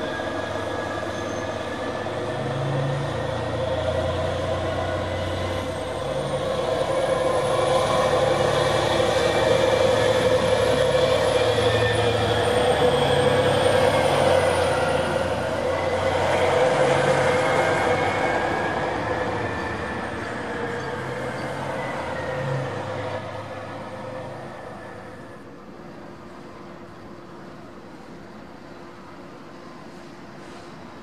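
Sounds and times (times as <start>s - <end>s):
train rolling over tracks: 0.0s - 31.0s.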